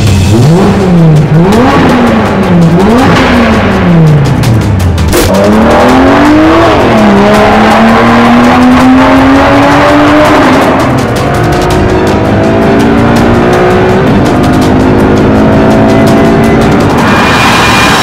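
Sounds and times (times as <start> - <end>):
background music: 0.0 - 18.0
race car engine revving: 0.0 - 18.0.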